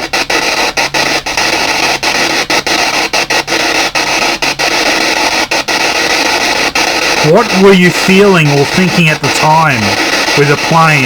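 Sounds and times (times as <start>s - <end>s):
radio static sweeping: 0.0s - 11.0s.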